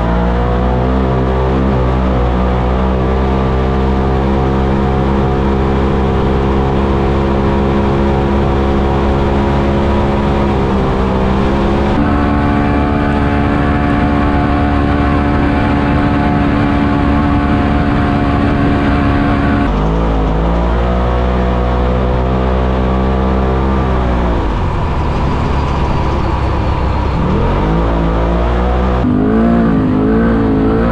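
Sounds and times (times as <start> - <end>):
vehicle engine running: 1.6 - 30.9.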